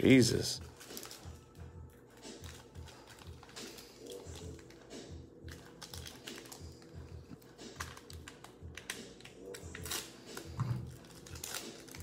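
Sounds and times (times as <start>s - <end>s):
background music: 0.0s - 12.0s
foil wrapper crinkling and tearing: 0.6s - 12.0s.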